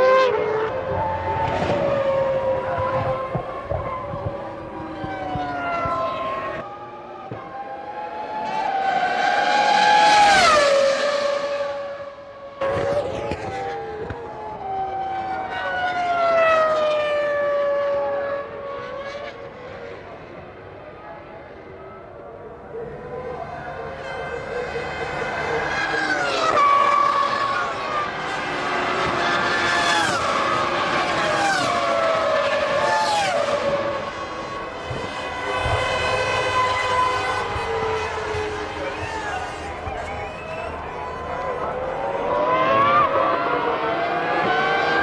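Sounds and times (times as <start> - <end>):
racing car engines passing: 0.0 - 21.7, 22.4 - 45.0.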